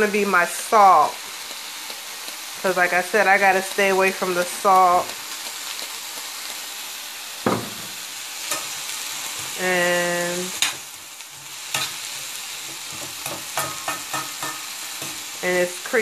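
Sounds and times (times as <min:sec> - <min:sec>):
vegetables sizzling in a skillet: 0:00.0 - 0:16.0.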